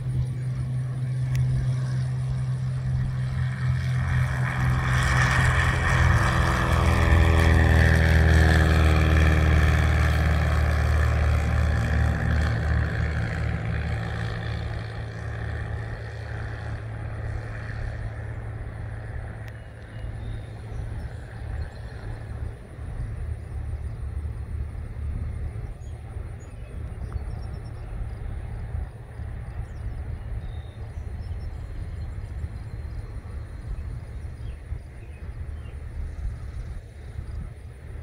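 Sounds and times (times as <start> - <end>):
propeller airplane droning past: 0.0 - 38.0.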